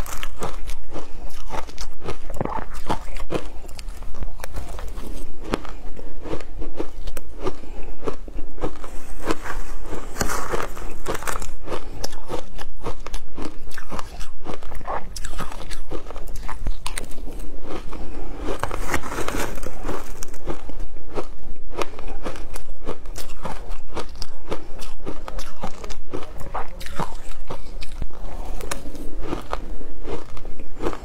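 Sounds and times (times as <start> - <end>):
chewing crunchy ice: 0.0 - 31.0.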